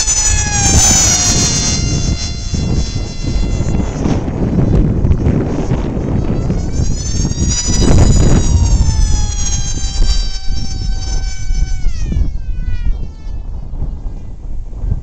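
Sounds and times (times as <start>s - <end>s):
electric motor and propeller whining: 0.0s - 14.6s
wind rumble on microphone: 0.0s - 15.0s.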